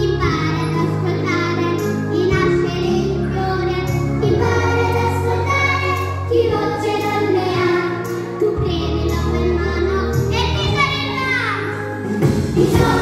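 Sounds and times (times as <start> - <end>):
girl singing into a microphone: 0.0 - 11.7
recorded backing track: 0.0 - 13.0.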